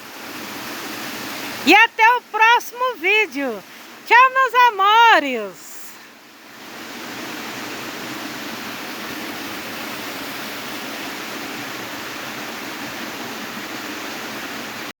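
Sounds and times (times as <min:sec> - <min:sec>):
running water rushing: 0:00.0 - 0:14.9.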